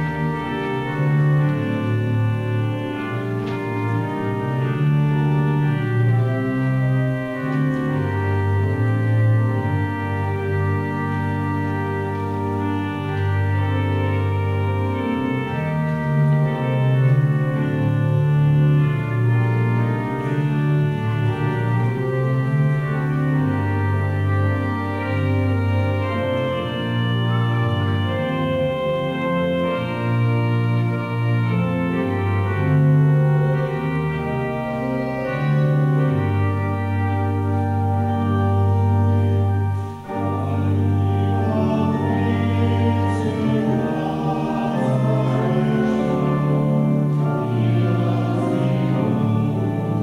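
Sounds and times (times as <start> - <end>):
pipe organ playing chords: 0.0 - 50.0.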